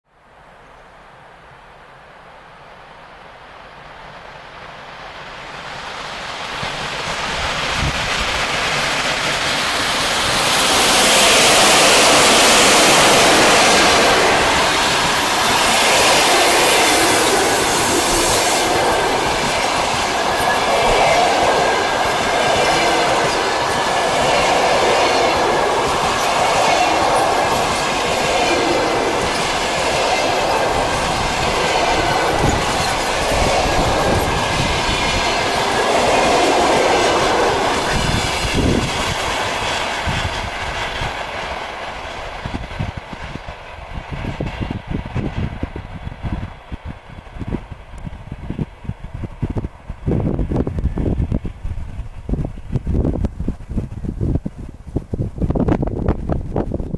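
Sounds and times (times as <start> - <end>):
electric locomotive passing: 0.2 - 56.9
train wheels clickety-clack: 3.8 - 56.9.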